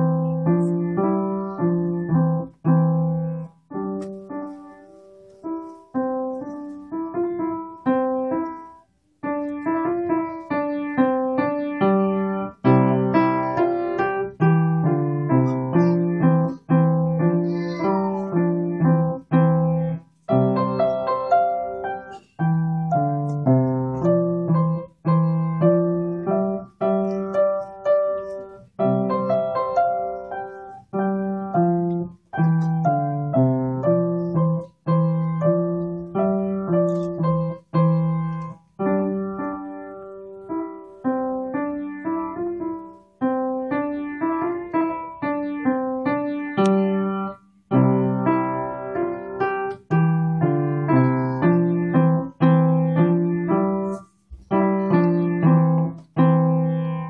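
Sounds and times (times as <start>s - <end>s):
child playing piano: 0.0s - 57.0s.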